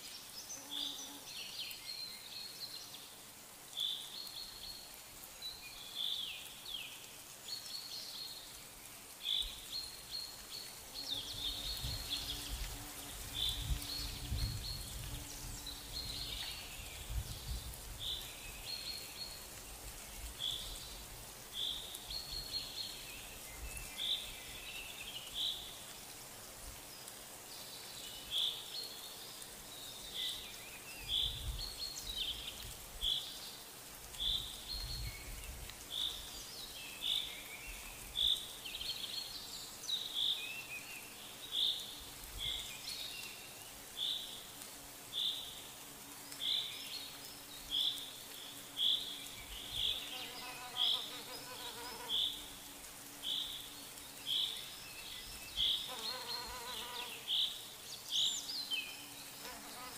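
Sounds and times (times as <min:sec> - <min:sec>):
faint outdoor background noise: 0:00.0 - 0:59.9.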